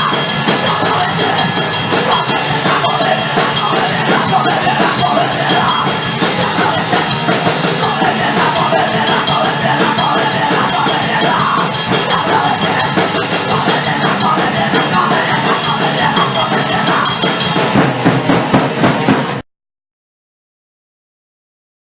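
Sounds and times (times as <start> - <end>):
bass guitar: 0.0 - 19.4
distorted electric guitars: 0.0 - 19.4
fast driving drum kit: 0.0 - 19.4.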